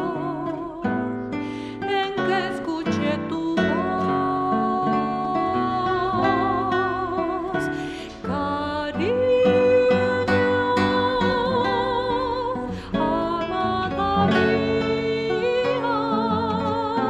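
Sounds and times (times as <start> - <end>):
classical guitar plucked: 0.0 - 17.0
woman singing with vibrato: 0.0 - 17.0.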